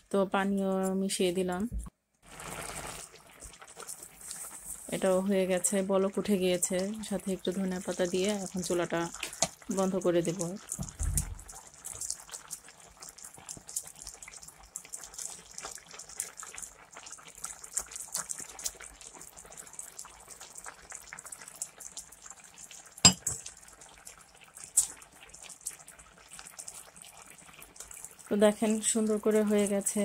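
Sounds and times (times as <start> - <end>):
curry bubbling in a frying pan: 2.2 - 30.0.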